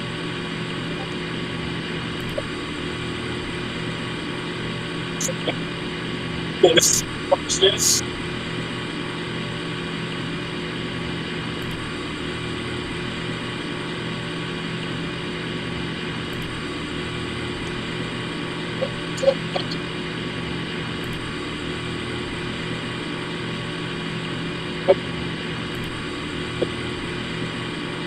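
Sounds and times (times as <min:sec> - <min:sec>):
heat pump humming and whirring: 0:00.0 - 0:28.0.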